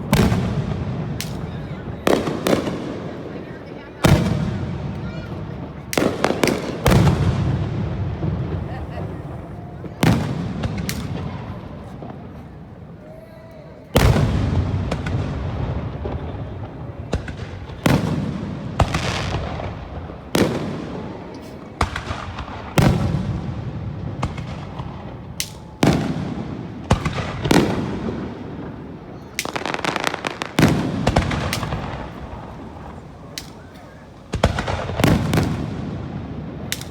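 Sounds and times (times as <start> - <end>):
crackling bangs: 0.0 - 3.2, 5.8 - 8.7, 10.0 - 12.4, 14.0 - 33.6, 34.2 - 36.9
fireworks booming: 0.0 - 13.1, 13.9 - 36.9.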